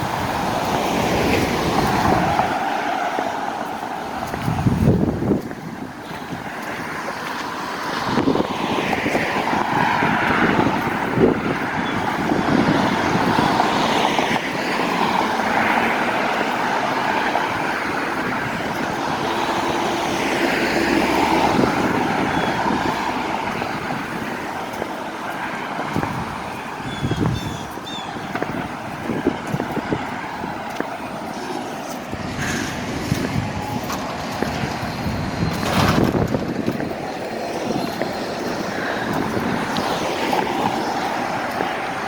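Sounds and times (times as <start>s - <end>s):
vehicles passing: 0.0s - 42.0s
wind gusting on microphone: 0.0s - 42.0s.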